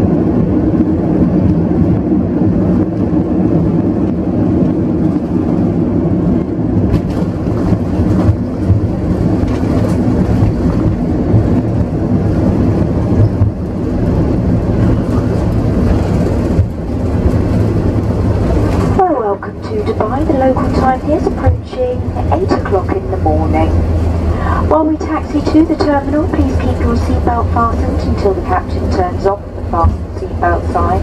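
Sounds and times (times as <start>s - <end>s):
airliner engines and wheels rumbling: 0.0s - 31.0s
constant low hum: 0.0s - 31.0s.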